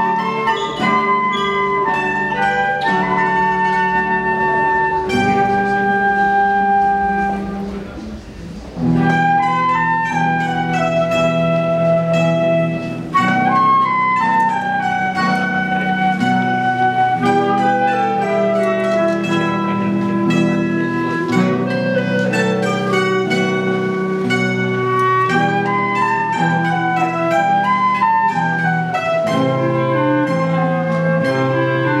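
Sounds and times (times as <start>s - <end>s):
flute melody: 0.0s - 32.0s
guitar accompaniment: 0.0s - 32.0s
plucked mandolin: 0.0s - 32.0s.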